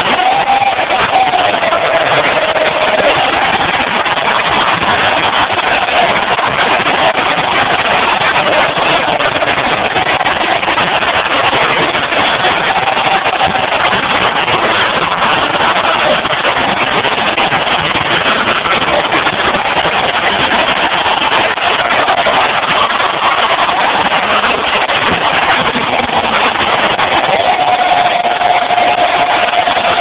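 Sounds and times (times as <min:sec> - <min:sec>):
arena crowd cheering: 0:00.0 - 0:30.0.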